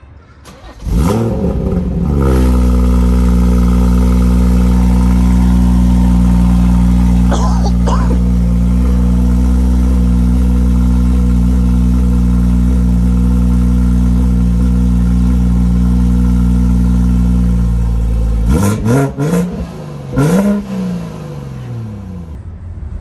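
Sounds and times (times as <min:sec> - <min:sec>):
car engine idling and revving: 0:00.5 - 0:23.0.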